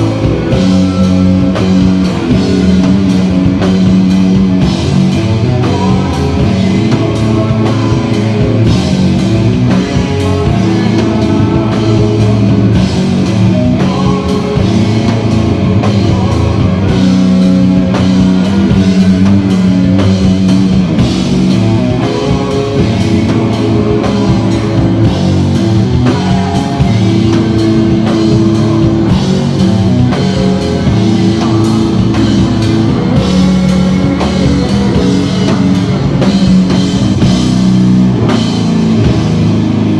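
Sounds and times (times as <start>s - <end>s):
bass notes: 0.0s - 39.9s
drum kit beat: 0.0s - 39.9s
guitars: 0.0s - 39.9s.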